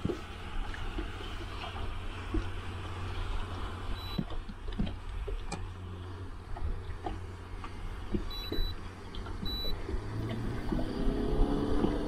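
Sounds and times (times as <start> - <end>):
boat low rumble: 0.0 - 12.0.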